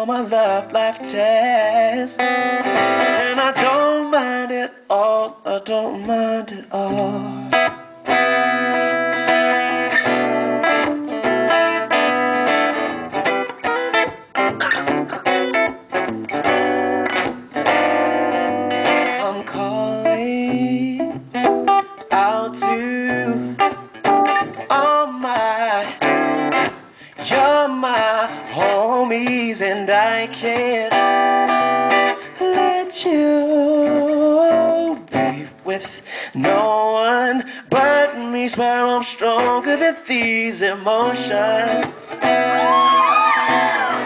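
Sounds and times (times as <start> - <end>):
acoustic guitar strumming: 0.0 - 4.6, 6.0 - 44.0.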